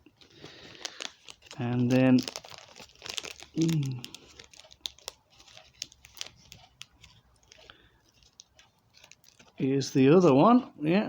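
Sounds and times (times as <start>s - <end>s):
packaging rustling and crinkling: 0.0s - 10.6s.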